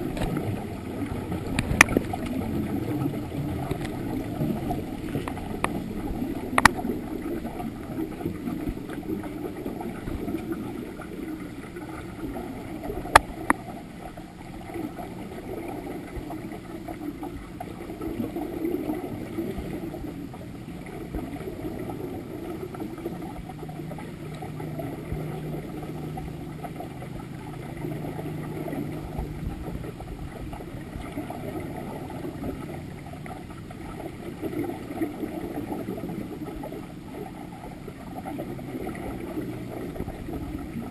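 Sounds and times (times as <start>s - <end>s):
low steady hum: 0.0s - 40.9s
underwater scuba exhaust bubbles: 0.0s - 40.9s.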